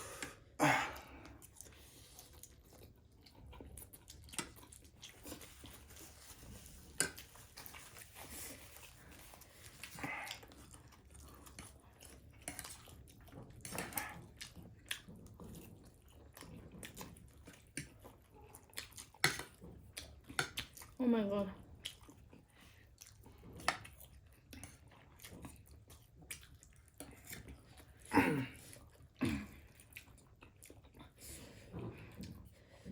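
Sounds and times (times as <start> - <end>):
people chewing and slurping noodles: 0.0 - 32.9.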